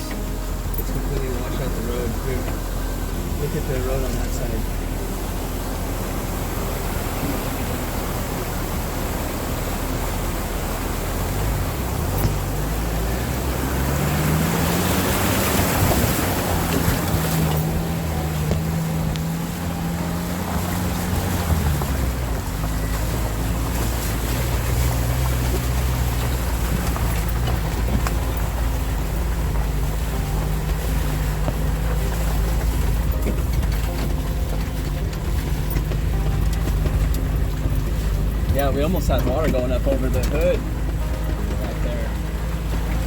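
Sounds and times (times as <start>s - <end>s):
car engine revving: 0.0s - 43.0s
water splashing: 0.0s - 43.0s.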